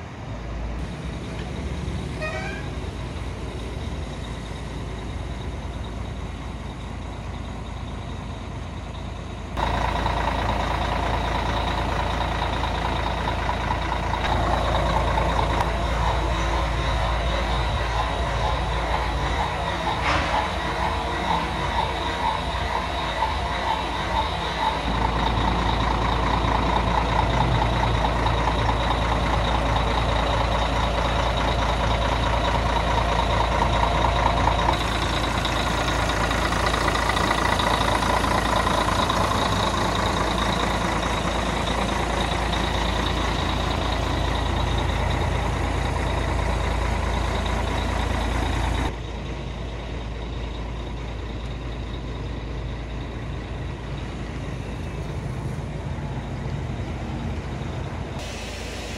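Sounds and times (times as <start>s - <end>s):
bus engine running: 0.0s - 58.9s
road noise: 0.0s - 58.9s.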